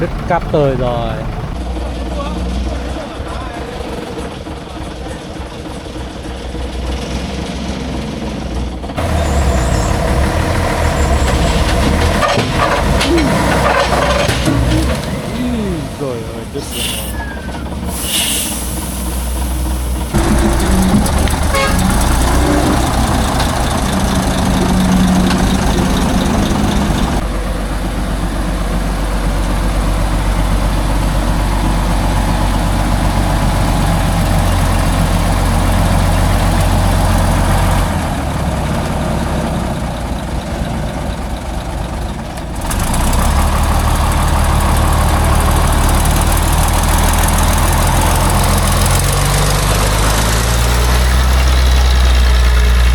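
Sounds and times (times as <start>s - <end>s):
truck diesel engine running: 0.0s - 52.9s.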